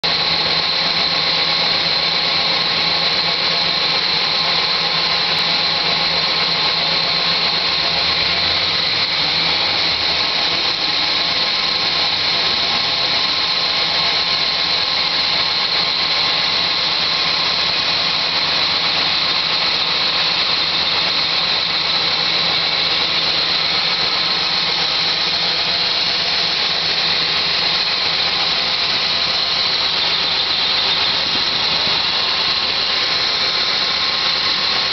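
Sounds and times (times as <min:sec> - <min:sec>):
car engine running: 0:00.0 - 0:34.9
high-pitched squeal: 0:00.0 - 0:34.9.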